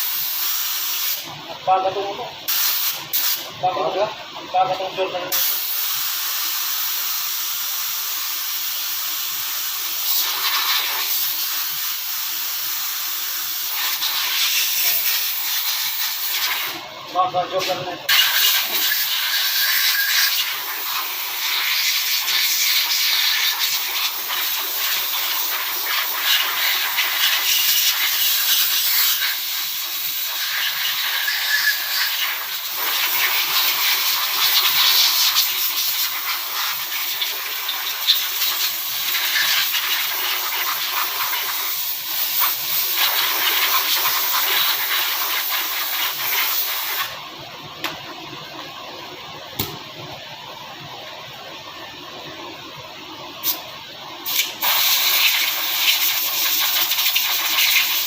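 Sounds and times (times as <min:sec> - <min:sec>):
compressed air hissing from air gun: 0:00.0 - 0:01.3, 0:02.5 - 0:03.6, 0:05.3 - 0:16.8, 0:17.6 - 0:47.2, 0:53.4 - 0:53.6, 0:54.2 - 0:58.0.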